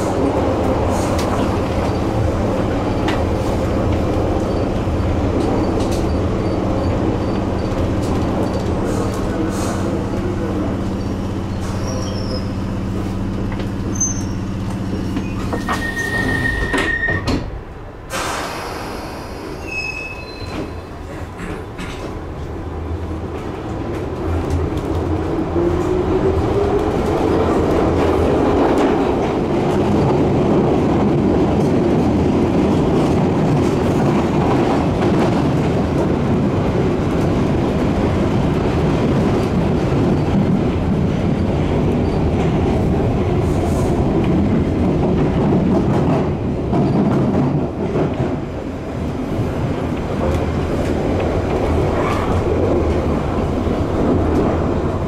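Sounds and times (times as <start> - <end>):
wheels rumbling on rails: 0.0 - 55.0.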